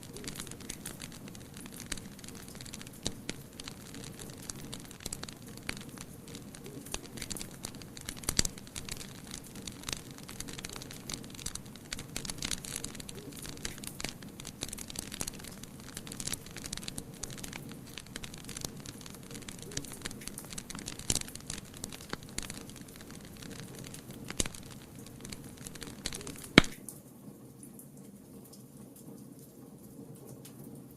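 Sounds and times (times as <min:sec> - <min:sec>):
steady hiss: 0:00.0 - 0:26.9
wood fire crackling: 0:00.0 - 0:26.9.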